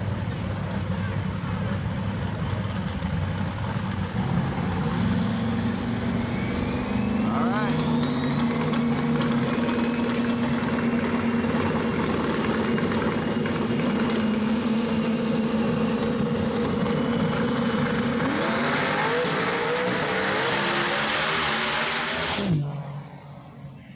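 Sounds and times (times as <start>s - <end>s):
drag car engine revving: 0.0s - 23.9s.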